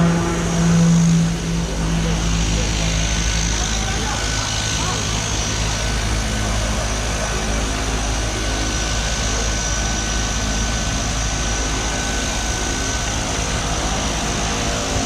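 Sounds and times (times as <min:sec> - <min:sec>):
high whine: 0:00.0 - 0:15.0
propeller aircraft engine drone: 0:00.0 - 0:15.0.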